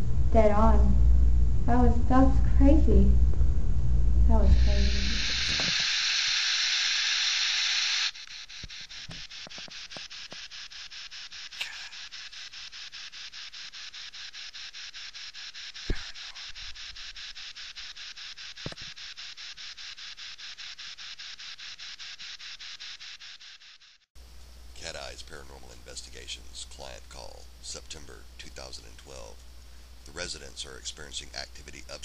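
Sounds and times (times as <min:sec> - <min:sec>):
pulsing static hiss: 0:00.0 - 0:32.0
loud static hiss: 0:03.7 - 0:32.0.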